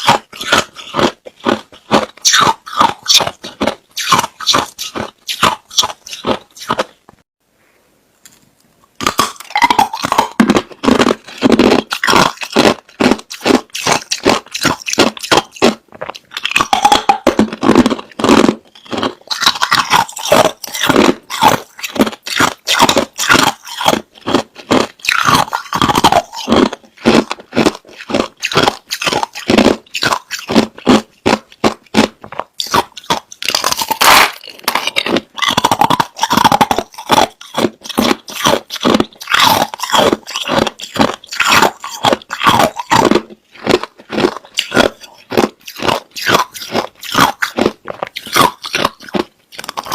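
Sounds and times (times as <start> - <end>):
ice being chewed: 0.0 - 7.2, 9.0 - 49.9.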